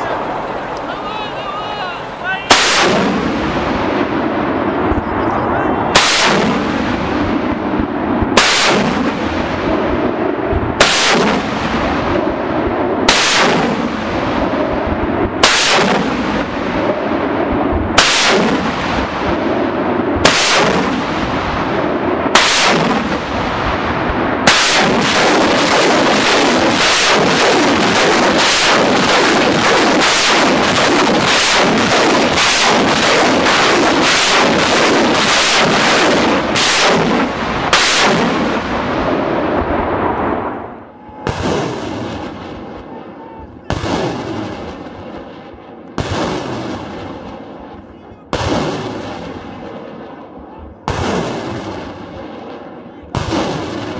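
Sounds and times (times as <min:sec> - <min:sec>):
rocket launch blasts and roar: 0:00.0 - 0:53.9.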